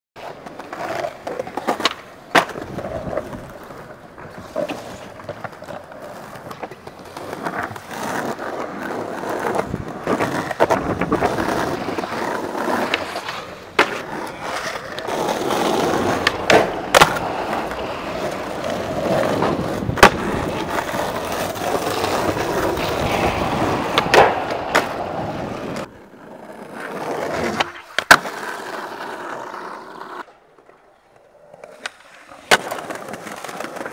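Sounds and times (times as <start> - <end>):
skateboard cracking on ground: 0.2 - 33.9
skateboard wheels rolling on concrete: 0.2 - 33.9.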